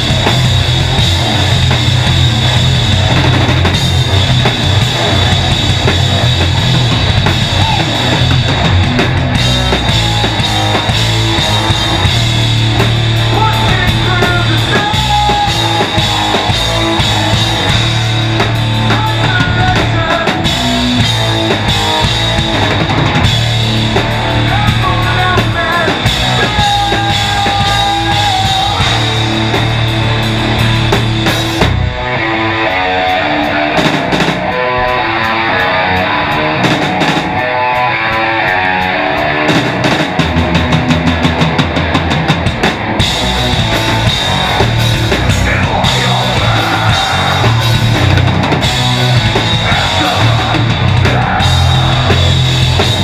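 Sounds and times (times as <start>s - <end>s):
drum kit with crashing cymbals: 0.0s - 31.9s, 39.5s - 53.0s
electric guitars: 0.0s - 53.0s
metal band playing live: 0.0s - 53.0s.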